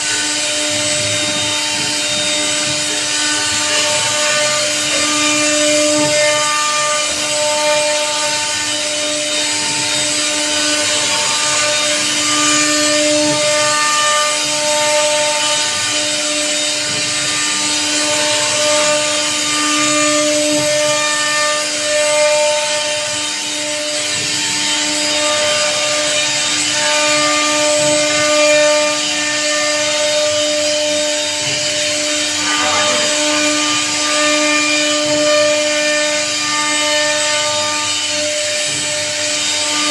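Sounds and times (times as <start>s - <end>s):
router bit rasping through wood: 0.0s - 39.9s
router spindle whine: 0.0s - 39.9s.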